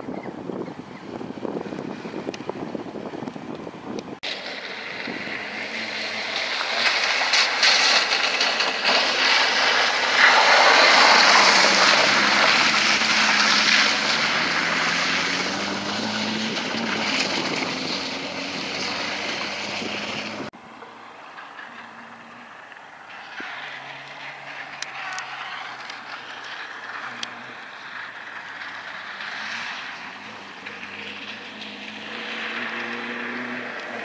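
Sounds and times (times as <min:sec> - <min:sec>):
tyres splashing through puddles: 0:01.0 - 0:34.0
rally car engine revving: 0:01.2 - 0:34.0
tyres churning gravel: 0:04.2 - 0:34.0.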